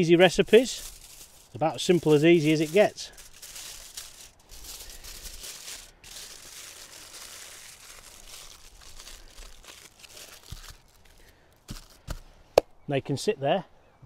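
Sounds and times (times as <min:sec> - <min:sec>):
aluminium foil crinkling: 0:00.0 - 0:12.2.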